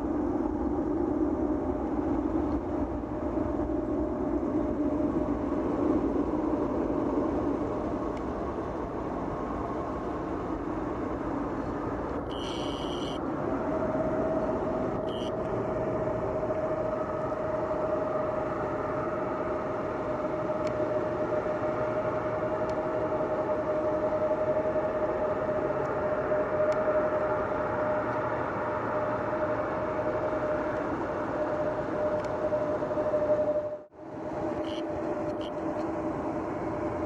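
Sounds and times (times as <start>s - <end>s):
mid-pitched engine whine: 0.0s - 37.0s.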